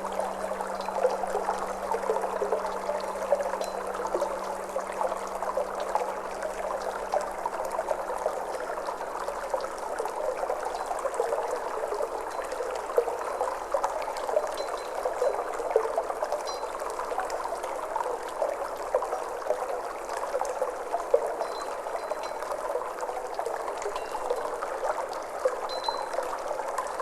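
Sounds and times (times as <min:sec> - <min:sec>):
babbling stream: 0:00.0 - 0:27.0.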